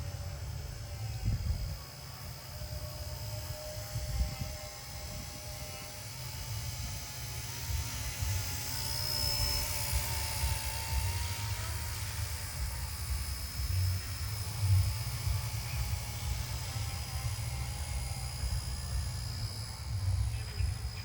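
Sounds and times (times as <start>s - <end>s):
rc helicopter motor and rotor whine: 0.0s - 21.0s.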